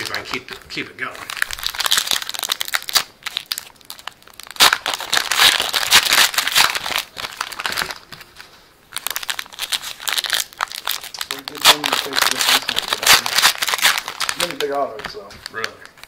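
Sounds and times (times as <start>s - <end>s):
foil wrapper crinkling and tearing: 0.0s - 16.0s.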